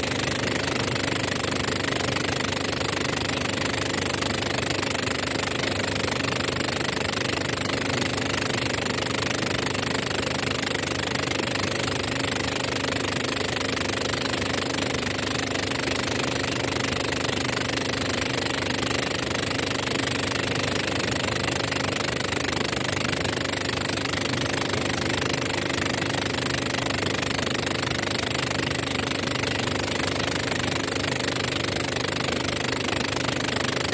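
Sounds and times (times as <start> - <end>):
small boat motor droning: 0.0 - 33.9.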